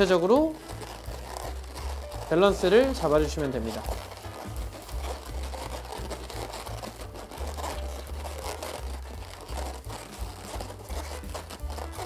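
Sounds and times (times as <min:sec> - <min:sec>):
balloon crinkling: 0:00.0 - 0:12.0
balloons rubbing and squeaking: 0:00.0 - 0:12.0.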